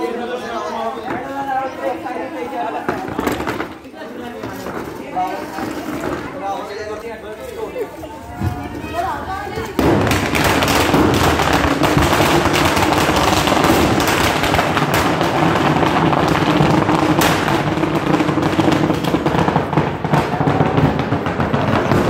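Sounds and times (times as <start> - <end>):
firecrackers crackling: 0.2 - 22.0.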